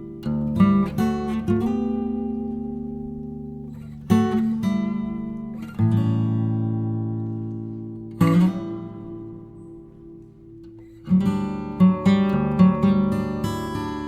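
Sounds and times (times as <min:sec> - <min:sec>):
acoustic guitar chords: 0:00.0 - 0:14.0
plucked guitar notes: 0:00.0 - 0:14.0.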